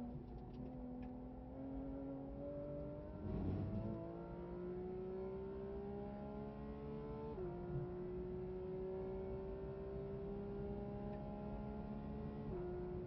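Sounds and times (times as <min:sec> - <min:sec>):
car engine at full throttle: 0:01.8 - 0:13.0.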